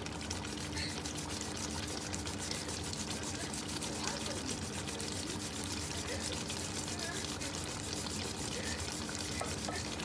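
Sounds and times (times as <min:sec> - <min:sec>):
stew bubbling at the boil: 0:00.0 - 0:10.0.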